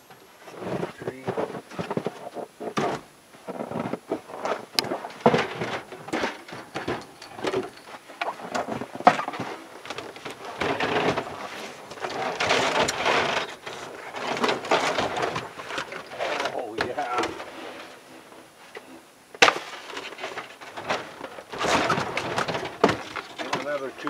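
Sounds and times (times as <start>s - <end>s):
rustling: 0.0s - 24.0s.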